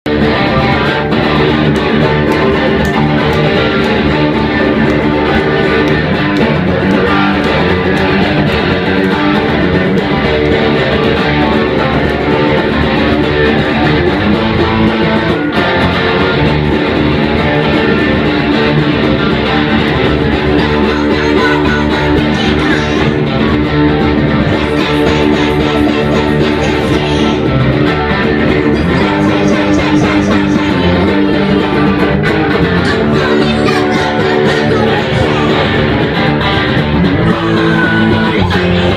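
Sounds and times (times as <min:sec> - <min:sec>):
bass guitar: 0:00.0 - 0:38.9
strummed electric guitar: 0:00.0 - 0:38.9.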